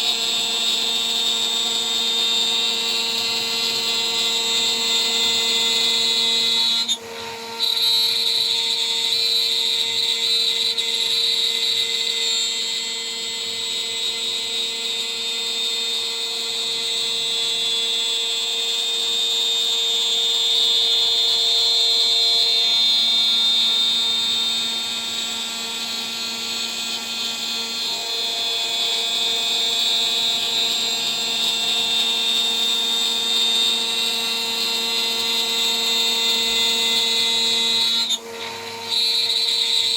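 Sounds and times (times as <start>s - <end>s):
router spindle whining while milling: 0.0s - 39.9s.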